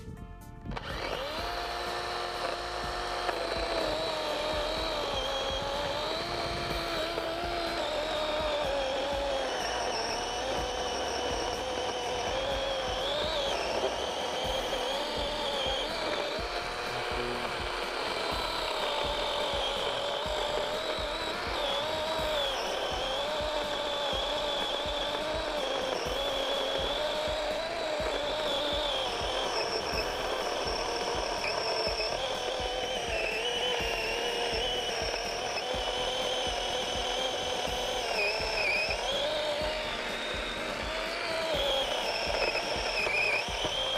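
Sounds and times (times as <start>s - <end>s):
electric chainsaw cutting log: 0.0s - 43.9s.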